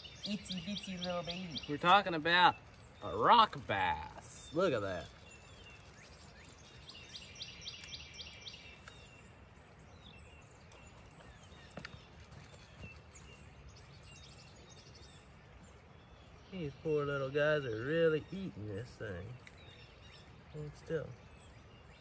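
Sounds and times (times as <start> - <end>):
birds calling: 0.0 - 22.0
low outdoor background: 0.0 - 22.0.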